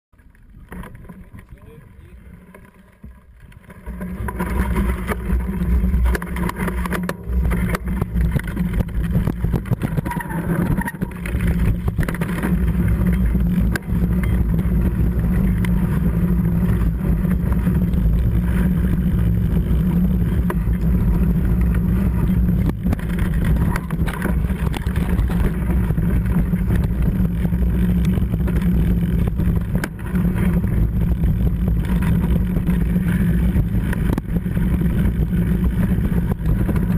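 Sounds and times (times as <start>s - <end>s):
tyres on gravel: 0.2s - 36.9s
bike knocks and rattles: 0.3s - 36.9s.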